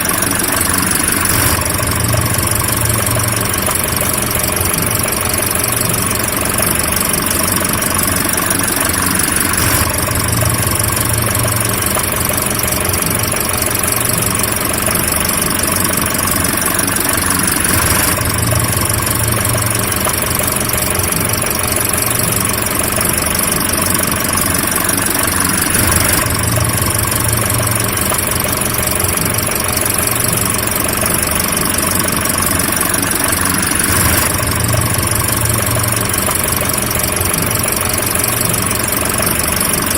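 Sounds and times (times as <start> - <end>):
car engine running steadily: 0.0 - 39.9.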